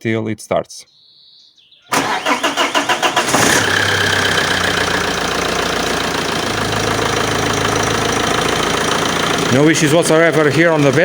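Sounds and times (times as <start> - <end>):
diesel engine cranking and idling: 1.9 - 11.0.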